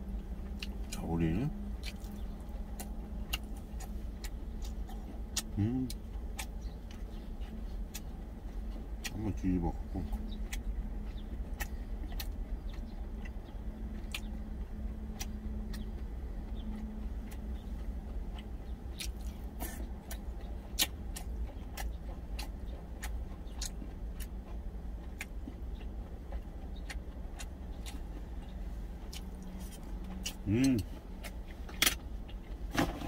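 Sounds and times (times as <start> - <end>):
steady low hum: 0.0 - 33.0
person chewing with mouth clicks: 0.1 - 32.6.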